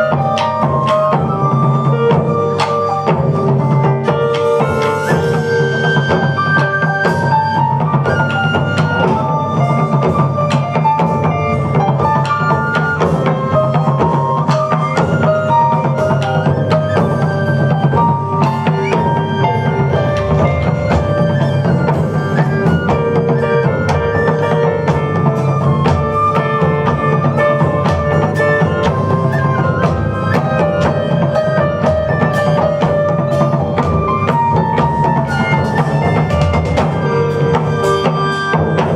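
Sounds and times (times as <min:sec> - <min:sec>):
keyboard melody: 0:00.0 - 0:38.9
taiko drums: 0:00.0 - 0:38.9.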